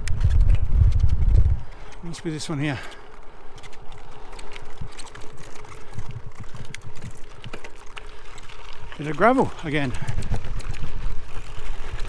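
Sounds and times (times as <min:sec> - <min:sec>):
bike rattling: 0:00.0 - 0:12.0
bike tyres crunching on gravel: 0:00.0 - 0:12.0.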